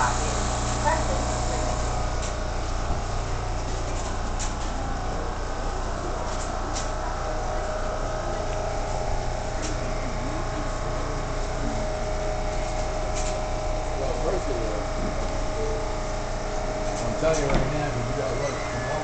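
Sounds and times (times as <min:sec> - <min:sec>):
subway train rumble: 0:00.0 - 0:19.0
train whine: 0:00.0 - 0:19.0.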